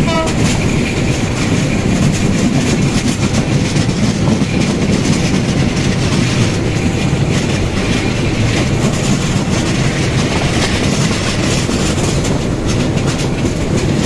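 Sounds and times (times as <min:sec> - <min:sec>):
train wheels clattering on track: 0:00.0 - 0:14.0.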